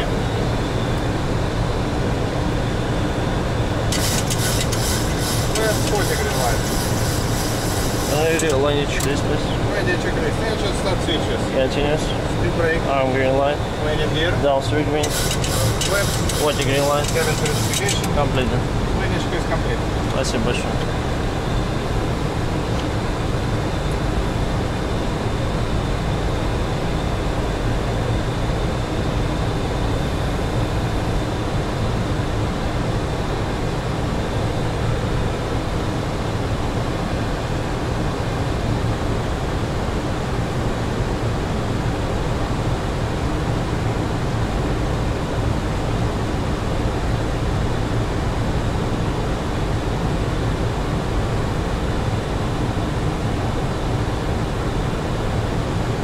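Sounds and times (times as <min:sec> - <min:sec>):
airflow and engine noise: 0:00.0 - 0:56.0.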